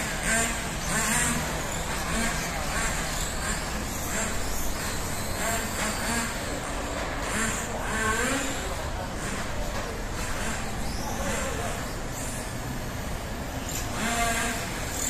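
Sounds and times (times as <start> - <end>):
high-pitched motor whine: 0.0 - 15.0
voices talking: 0.0 - 15.0.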